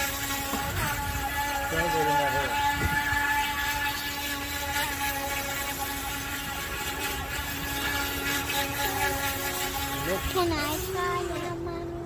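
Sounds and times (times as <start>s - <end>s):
electric boat motor whine: 0.0s - 12.0s.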